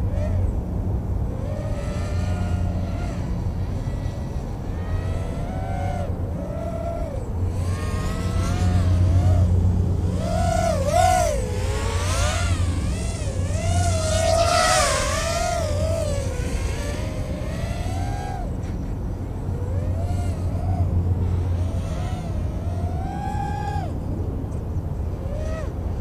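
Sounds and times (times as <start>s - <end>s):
low hum: 0.0s - 26.0s
quadcopter motors whining: 0.0s - 26.0s.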